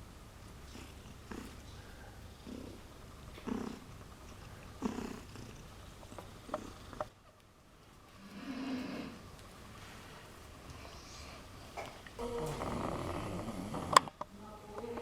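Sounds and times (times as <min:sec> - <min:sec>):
cat purring: 0:00.4 - 0:15.0.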